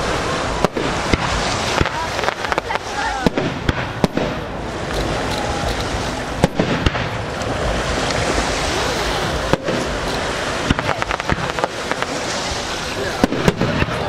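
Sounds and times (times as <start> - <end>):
fireworks bursting: 0.0 - 14.0
steady background noise: 0.0 - 14.0.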